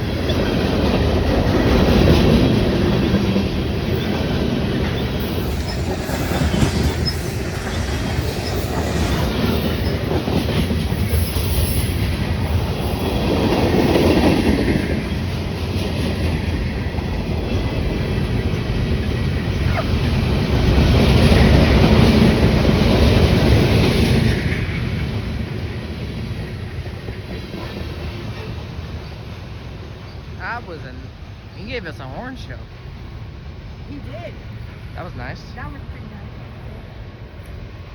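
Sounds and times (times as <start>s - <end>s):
freight train rumble and clatter: 0.0s - 37.9s.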